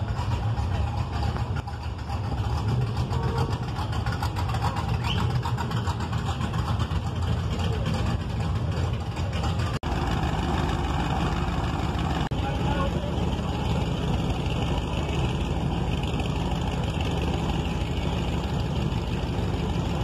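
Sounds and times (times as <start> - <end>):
car engine idling with exhaust rumble: 0.0 - 20.0.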